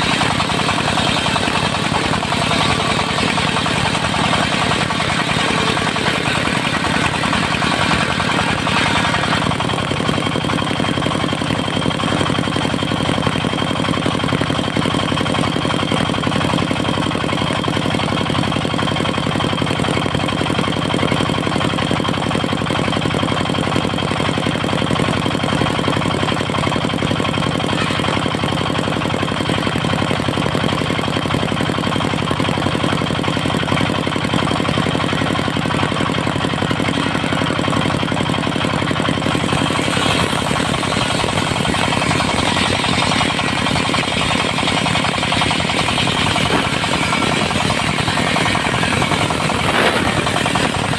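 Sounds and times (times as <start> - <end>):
diesel engine running: 0.0 - 50.9
sawmill high whine: 0.0 - 50.9.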